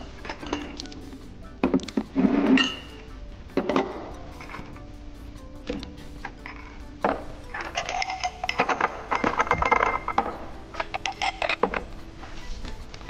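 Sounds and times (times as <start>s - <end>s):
glasses and bottles clinking: 0.0s - 4.9s, 5.8s - 12.2s
faint music: 0.0s - 13.0s.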